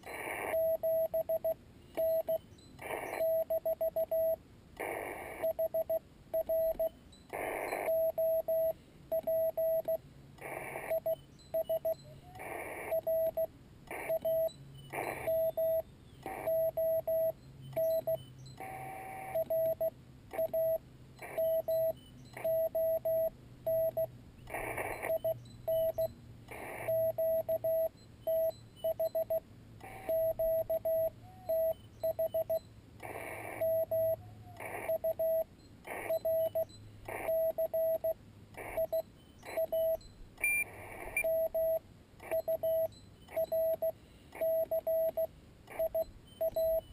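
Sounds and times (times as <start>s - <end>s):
morse code tone: 0.0s - 46.9s
receiver hiss: 0.0s - 46.9s.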